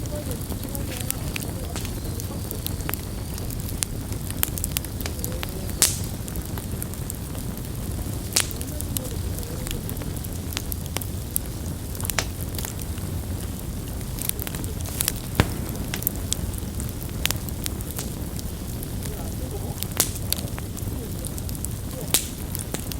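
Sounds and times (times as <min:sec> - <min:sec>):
burning wood popping: 0:00.0 - 0:22.9
campfire crackling: 0:00.0 - 0:22.9
low fire rumble: 0:00.0 - 0:22.9.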